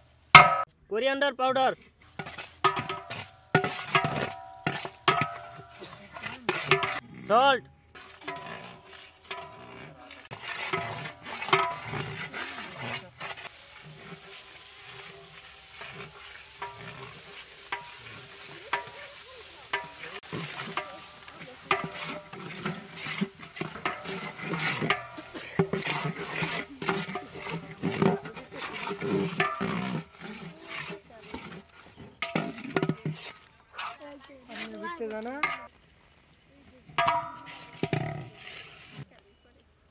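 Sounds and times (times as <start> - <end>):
ladle scraping a metal pot: 1.8 - 7.0, 7.9 - 35.7, 36.9 - 39.1
spices sizzling: 2.0 - 7.0, 8.0 - 39.1.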